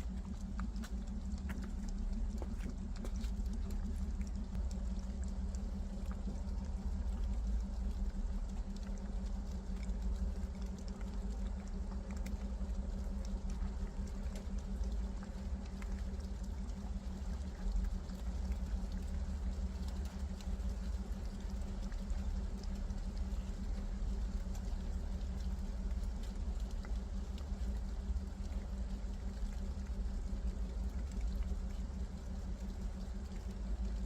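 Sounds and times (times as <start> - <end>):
low rumble: 0.0 - 34.0
rain falling: 0.0 - 34.0.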